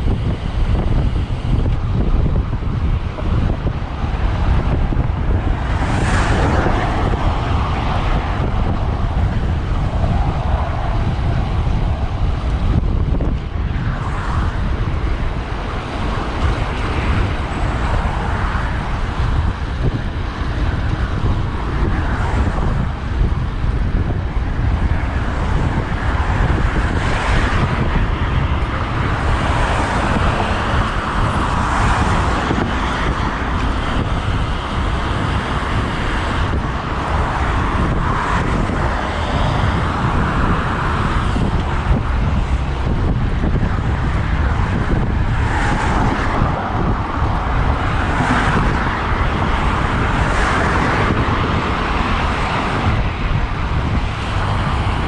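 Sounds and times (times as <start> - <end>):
car traffic passing: 0.0 - 55.0
wind rushing over microphone: 0.0 - 55.0.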